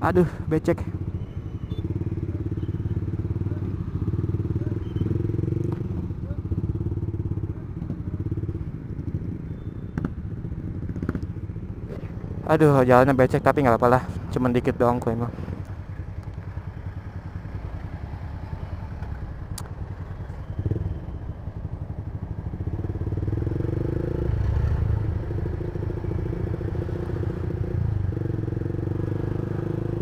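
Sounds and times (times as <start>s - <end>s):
motorcycle engine through exhaust: 1.0s - 12.6s, 15.4s - 30.0s.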